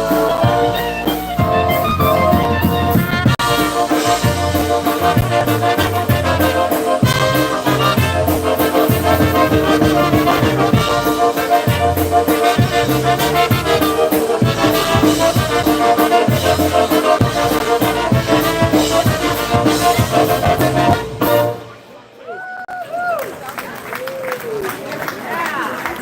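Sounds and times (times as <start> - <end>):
steady drum beat: 0.0 - 21.6
polka band playing: 0.0 - 22.0.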